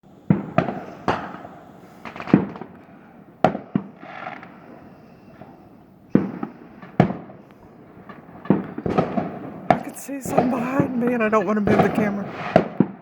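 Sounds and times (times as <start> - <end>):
fireworks bangs echoing: 0.1 - 13.0
firework hiss: 0.2 - 13.0.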